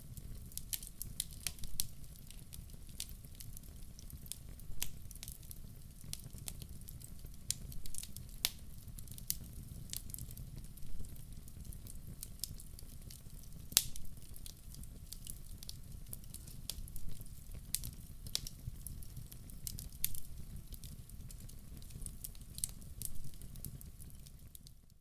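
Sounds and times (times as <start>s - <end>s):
logs burning in fireplace: 0.0s - 25.0s.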